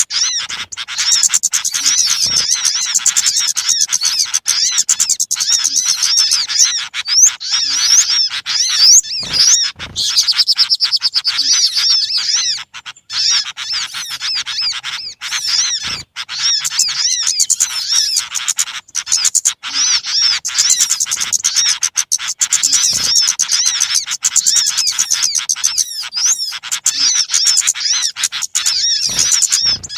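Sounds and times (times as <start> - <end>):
flock of small birds chirping: 0.0 - 29.9.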